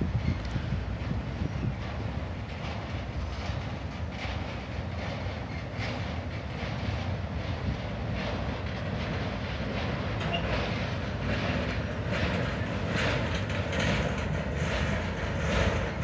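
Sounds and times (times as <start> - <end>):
rhythmic train clatter: 0.0 - 16.0
train wheels rumbling on rails: 0.0 - 16.0.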